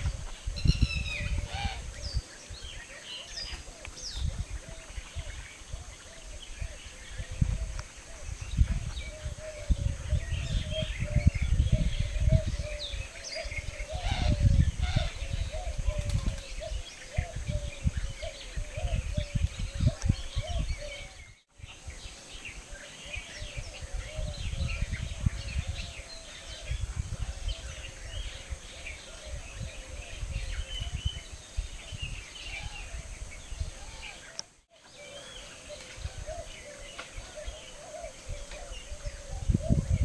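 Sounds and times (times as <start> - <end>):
wind gusting on microphone: 0.0 - 34.4, 35.3 - 40.0
birds chirping: 0.0 - 40.0.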